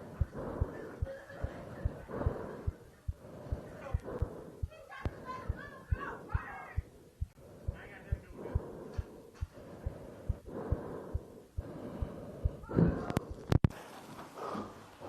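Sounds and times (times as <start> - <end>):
breathy rushing noise: 0.0 - 13.6
regular low thuds: 0.0 - 13.7.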